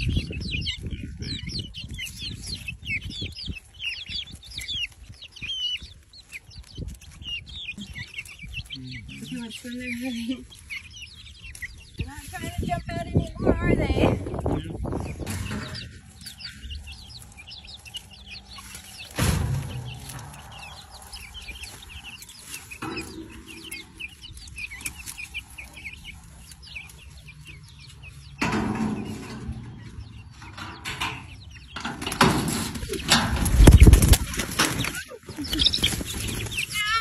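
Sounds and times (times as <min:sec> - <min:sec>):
chicks peeping and clucking: 0:00.0 - 0:37.0.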